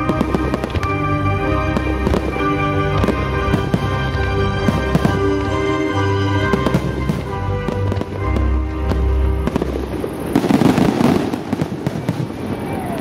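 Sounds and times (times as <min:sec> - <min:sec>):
music with held tones: 0:00.0 - 0:12.2
fireworks bursting: 0:00.0 - 0:13.0.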